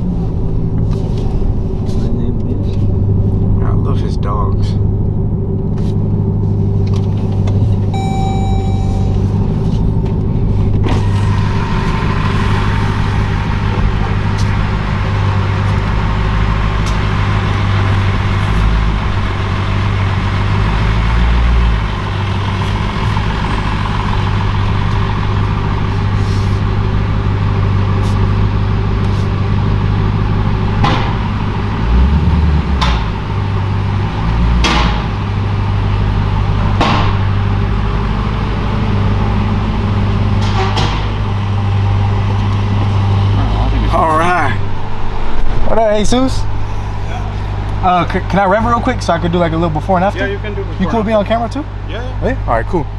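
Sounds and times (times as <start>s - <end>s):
car engine droning: 0.0s - 52.9s.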